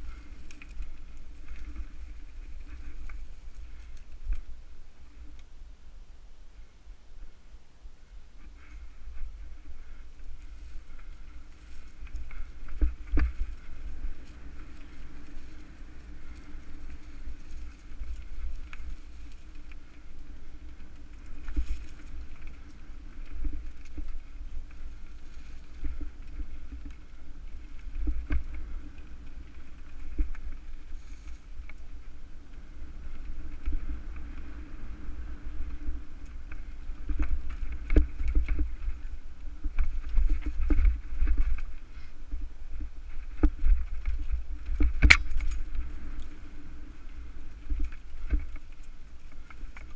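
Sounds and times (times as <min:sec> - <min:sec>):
bike tyres and wind rumbling: 0:00.0 - 0:49.9.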